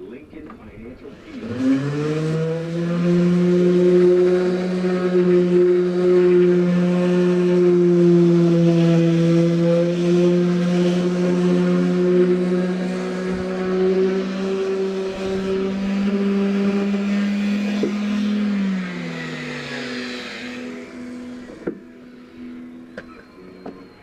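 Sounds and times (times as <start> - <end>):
orbital sander running: 1.0 - 24.0
sander motor winding down: 1.0 - 24.0.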